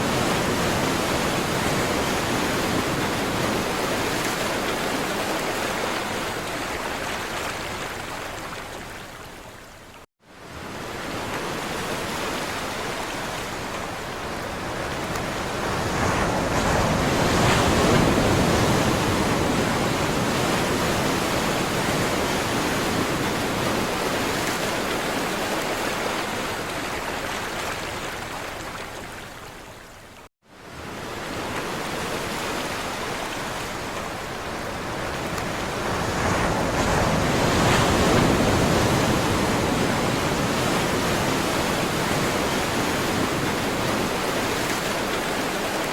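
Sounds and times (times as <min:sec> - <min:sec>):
ocean waves breaking: 0:00.0 - 0:08.6, 0:10.5 - 0:29.1, 0:30.6 - 0:45.9.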